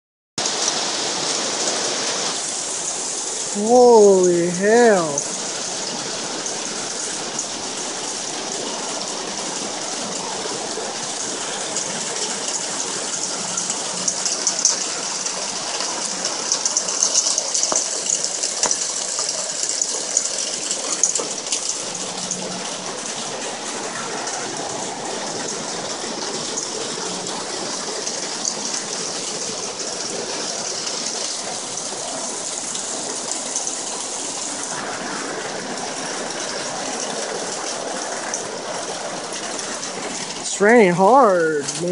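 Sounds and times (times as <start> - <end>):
heavy rain pouring: 0.4 - 41.9.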